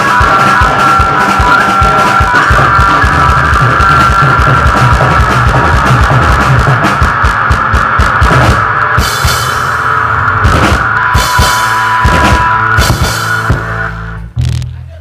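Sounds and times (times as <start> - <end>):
rock band playing live: 0.0 - 14.8
drum kit and cymbals: 0.0 - 15.0
held guitar tones: 0.0 - 15.0.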